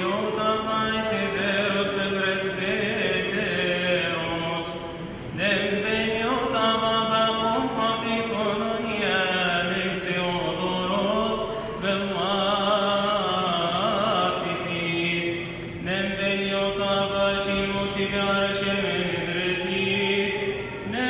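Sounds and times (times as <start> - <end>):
man chanting a hymn: 0.0 - 21.0.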